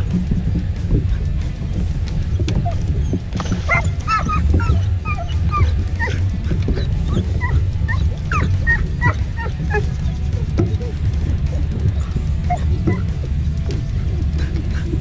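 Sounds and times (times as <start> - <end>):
background music: 0.0 - 15.0
dog whining and yipping: 2.2 - 15.0.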